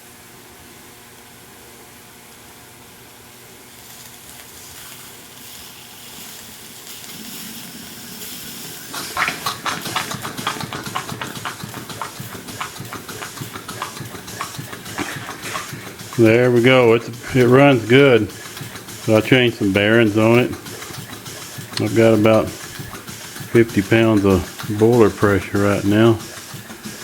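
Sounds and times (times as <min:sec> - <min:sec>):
steam hissing: 0:03.3 - 0:27.0
steam engine exhaust chuffs: 0:04.0 - 0:27.0.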